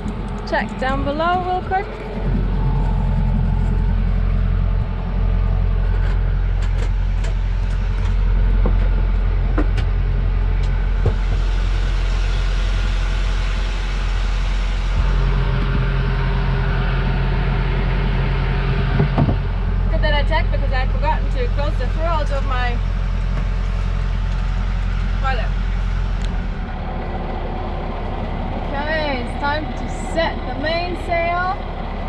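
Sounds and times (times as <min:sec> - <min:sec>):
boat engine droning: 0:00.0 - 0:32.0.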